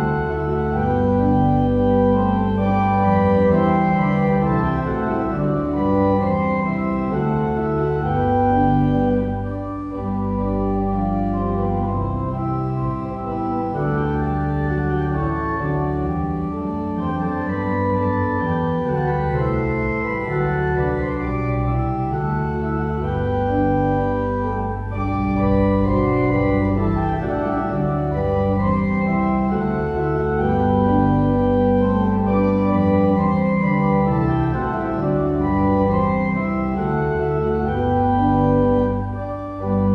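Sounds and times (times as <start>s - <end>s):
organ playing held chords: 0.0s - 39.9s.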